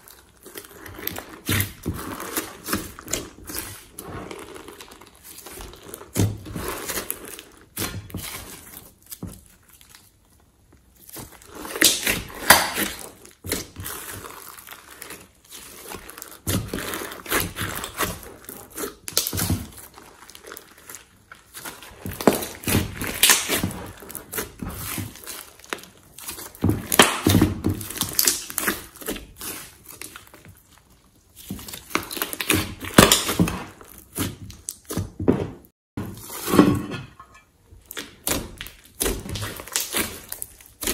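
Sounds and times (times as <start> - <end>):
slime squelching and crackling: 0.0 - 35.2, 36.0 - 40.9.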